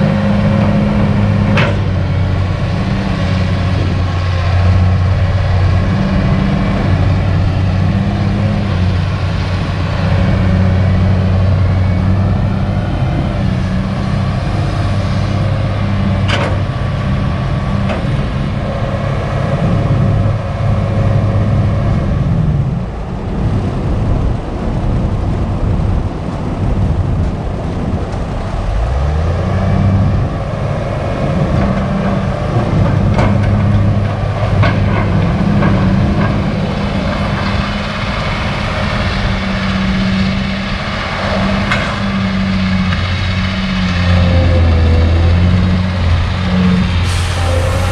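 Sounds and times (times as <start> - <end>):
excavator diesel engine running: 0.0 - 24.0, 26.7 - 47.9.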